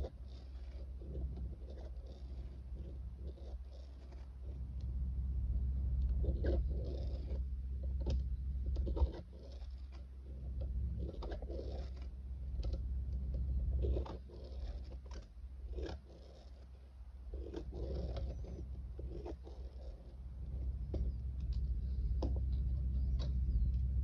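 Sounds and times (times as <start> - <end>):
pen scratching on paper: 0.0 - 4.8, 6.1 - 23.6
low hum: 0.0 - 24.0.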